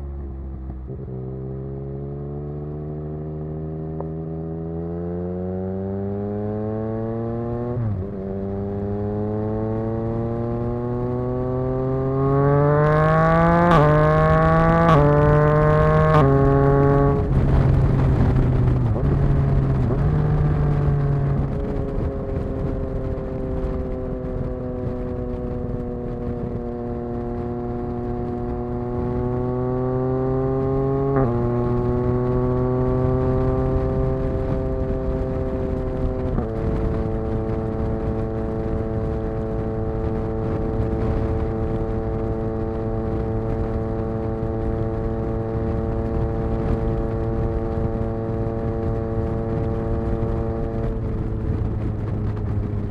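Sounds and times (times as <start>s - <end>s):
wind rumble on microphone: 0.0s - 52.9s
motorcycle engine revving: 0.8s - 52.9s.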